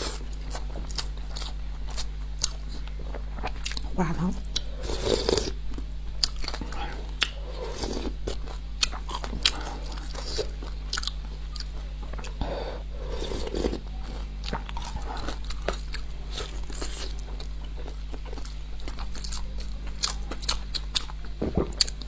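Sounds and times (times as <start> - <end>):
chewing with mouth smacks: 0.0 - 12.4, 13.1 - 22.0
steady low hum: 0.0 - 22.0.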